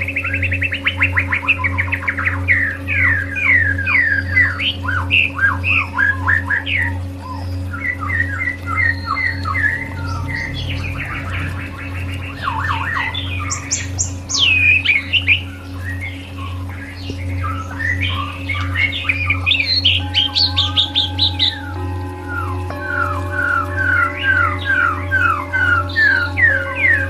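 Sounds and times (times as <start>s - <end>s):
songbird singing whistled phrases: 0.0s - 27.0s
steady low hum: 0.0s - 27.0s.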